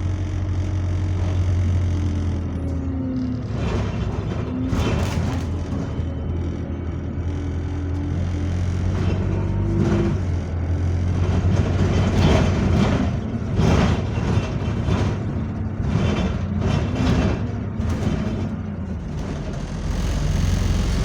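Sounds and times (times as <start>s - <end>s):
bus engine humming: 0.0s - 21.0s
bus body rattling: 1.1s - 21.0s.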